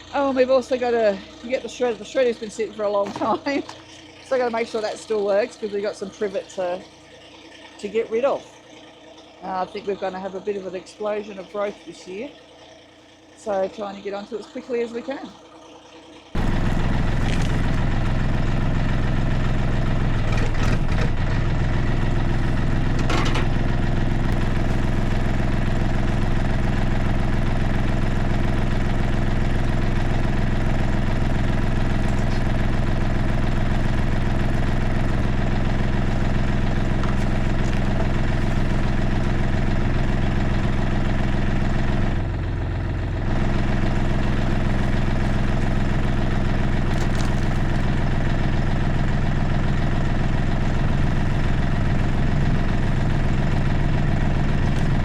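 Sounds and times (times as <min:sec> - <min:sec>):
tractor engine running: 0:00.0 - 0:07.0, 0:16.1 - 0:55.0.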